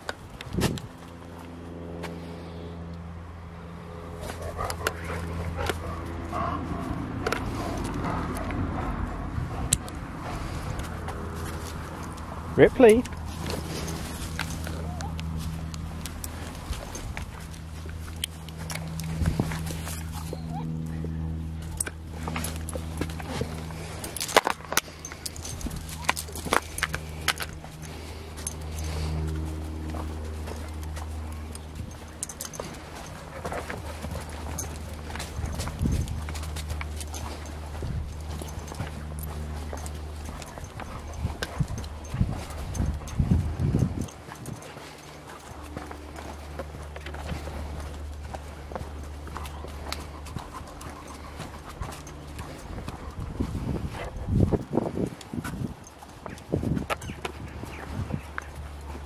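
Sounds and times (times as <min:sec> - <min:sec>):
footsteps on a path: 0:00.0 - 0:59.0
low engine hum: 0:00.0 - 0:59.0.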